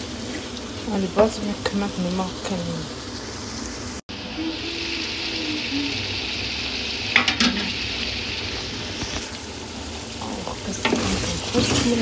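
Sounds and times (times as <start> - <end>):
food sizzling in a metal pot: 0.0 - 12.0.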